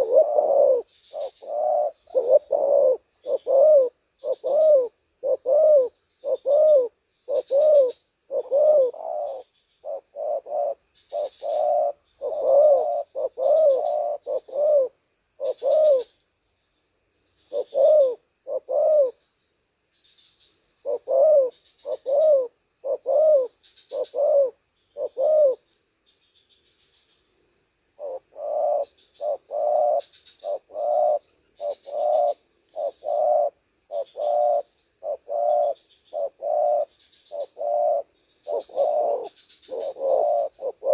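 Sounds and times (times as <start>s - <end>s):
doves cooing: 0.0s - 16.2s, 17.5s - 19.2s, 20.8s - 25.7s, 28.0s - 40.9s
faint high chirping: 0.0s - 40.9s.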